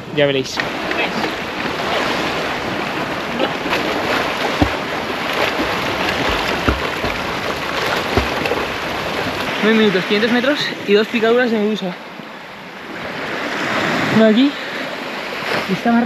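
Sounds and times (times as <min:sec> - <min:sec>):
sea water rushing: 0:00.0 - 0:16.0
wind: 0:00.0 - 0:16.0.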